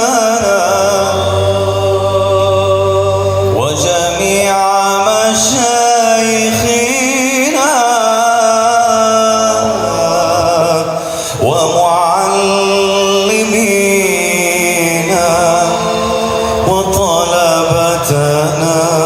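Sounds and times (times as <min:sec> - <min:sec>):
lead male voice singing: 0:00.0 - 0:19.0.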